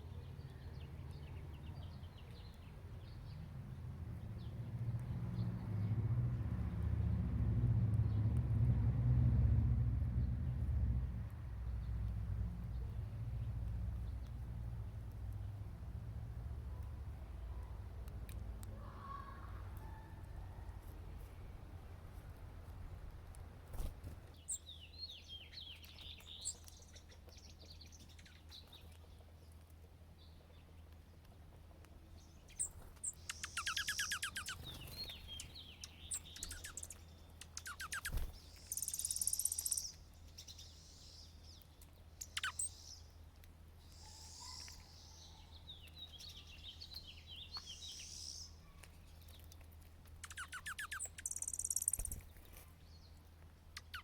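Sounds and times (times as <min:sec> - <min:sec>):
songbirds chirping and trilling: 0:00.0 - 0:09.0, 0:10.1 - 0:54.0.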